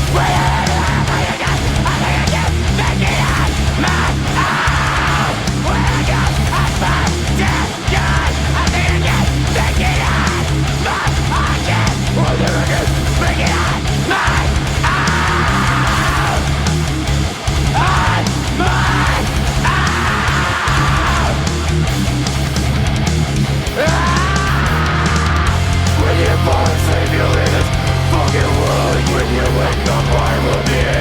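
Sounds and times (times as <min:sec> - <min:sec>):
heavy rock music: 0:00.0 - 0:31.0.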